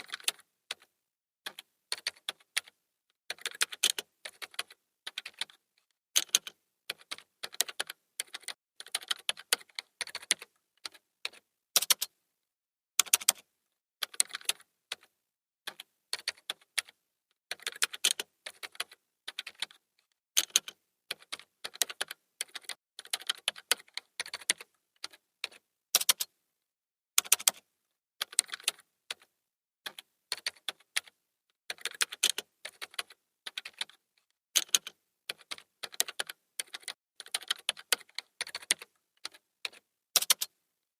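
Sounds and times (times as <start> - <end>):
keyboard typing: 0.0 - 0.9, 1.5 - 12.2, 13.0 - 15.1, 15.7 - 19.8, 20.4 - 26.3, 27.2 - 34.0, 34.6 - 40.6.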